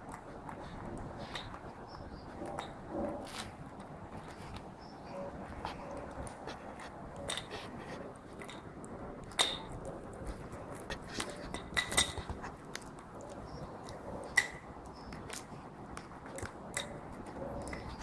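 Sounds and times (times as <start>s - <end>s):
puppy chewing and pawing plastic: 0.0s - 18.0s.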